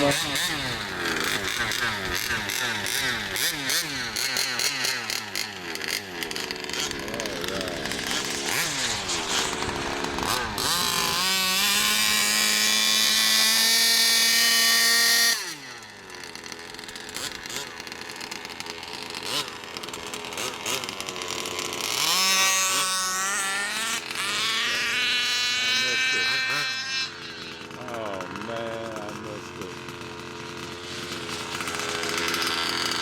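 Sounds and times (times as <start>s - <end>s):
rc car engine revving: 0.0s - 33.0s.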